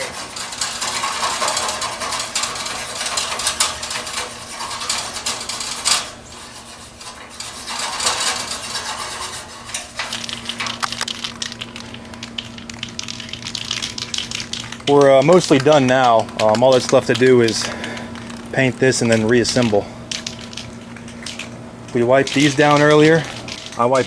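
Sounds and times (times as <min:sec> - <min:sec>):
scraping grime off metal: 0:00.0 - 0:24.0.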